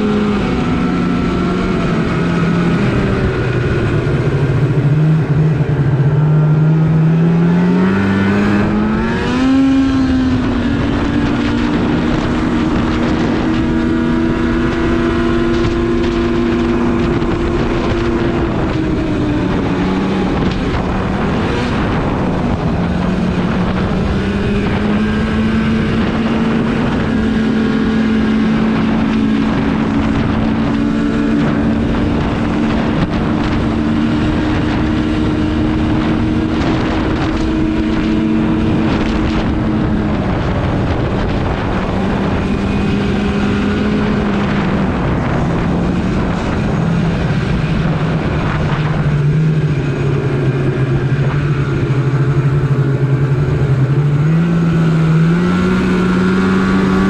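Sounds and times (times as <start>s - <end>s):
snowmobile engine running: 0.0s - 57.0s
wind rushing over microphone: 0.0s - 57.0s.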